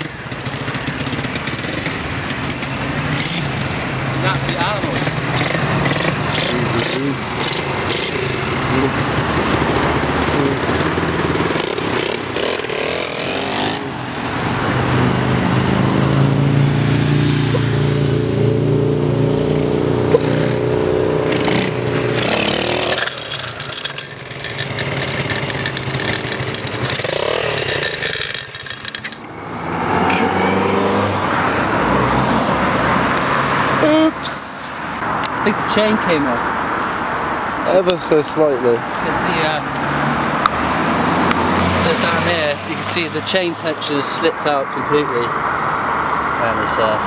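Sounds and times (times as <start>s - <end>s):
motorbike engine revving: 0.0s - 34.0s, 39.1s - 44.2s.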